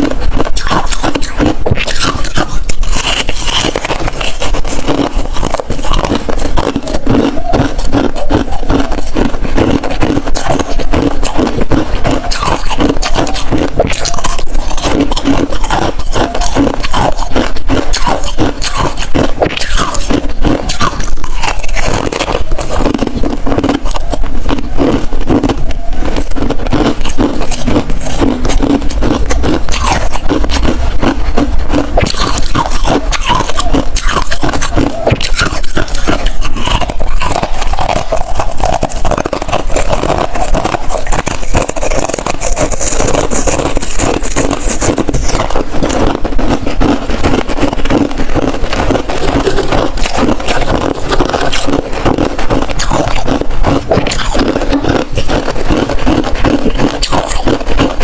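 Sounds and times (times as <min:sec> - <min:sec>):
chewing hard ice: 0:00.0 - 0:58.0.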